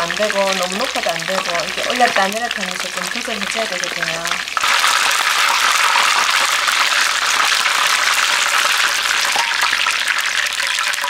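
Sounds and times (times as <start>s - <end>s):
deep-frying sizzle and crackle: 0.0s - 11.0s.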